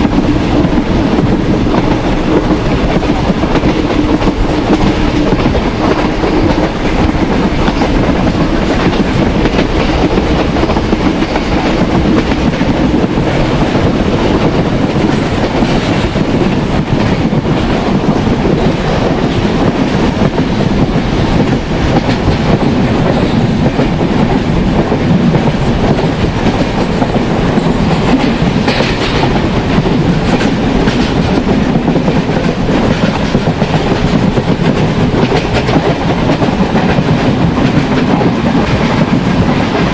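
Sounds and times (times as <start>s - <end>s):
train wheel rumble: 0.0s - 39.9s
wheels clacking over rail joints: 0.0s - 39.9s.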